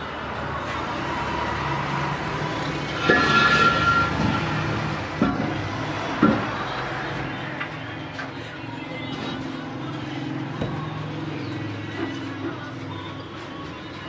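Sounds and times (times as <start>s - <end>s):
busy street noise: 0.0s - 14.0s.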